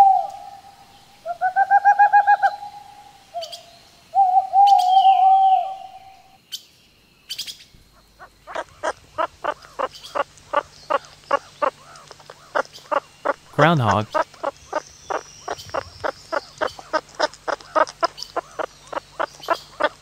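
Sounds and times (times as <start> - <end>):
owl calling: 0.0 - 6.4, 7.3 - 20.0.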